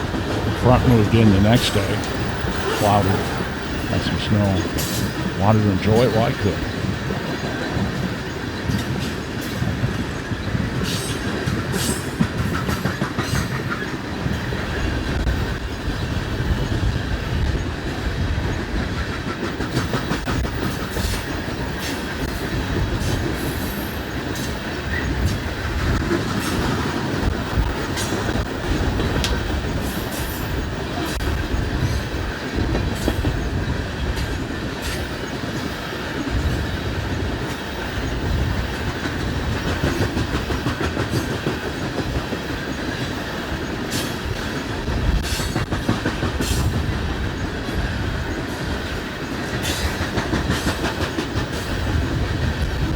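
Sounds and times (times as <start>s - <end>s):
train wheels rumbling: 0.0s - 52.9s.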